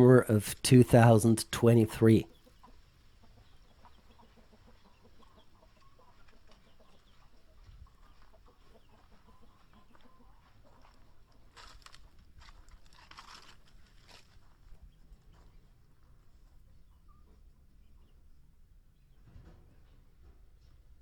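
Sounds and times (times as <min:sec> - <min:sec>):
faint chickens clucking: 0:00.0 - 0:21.0.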